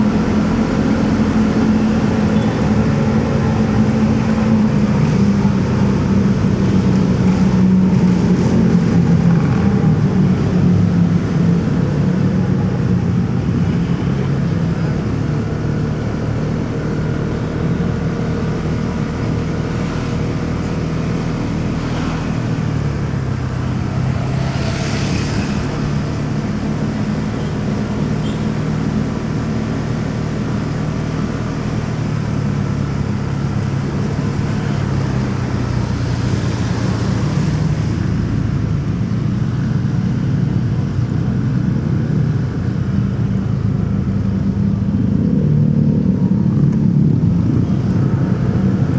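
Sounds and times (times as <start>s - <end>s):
road and traffic noise: 0.0s - 48.9s.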